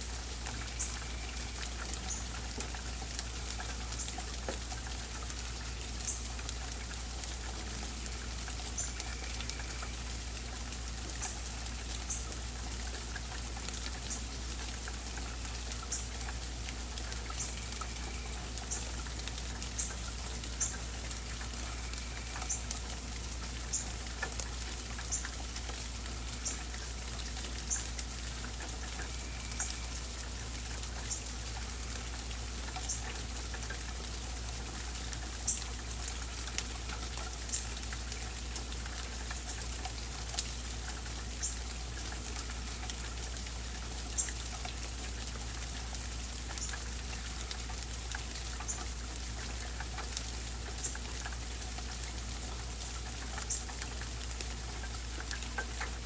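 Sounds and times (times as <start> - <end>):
rain falling: 0.0 - 56.0
sharp drips: 0.0 - 56.0.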